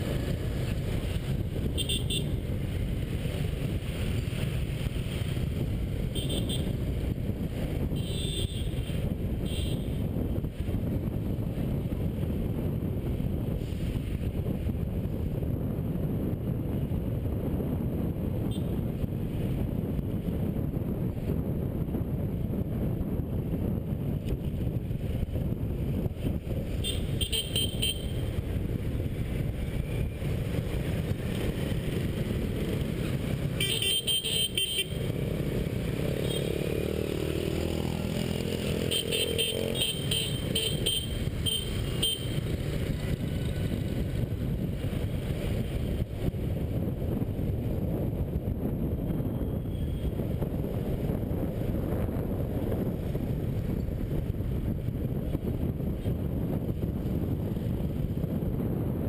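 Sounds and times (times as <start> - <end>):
motorcycle engine rumble: 0.0 - 59.0
wind rushing: 8.7 - 59.0.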